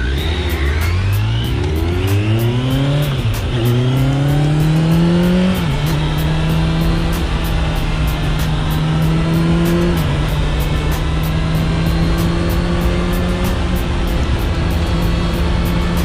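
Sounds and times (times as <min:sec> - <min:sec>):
motorcycle accelerating: 0:00.0 - 0:16.0.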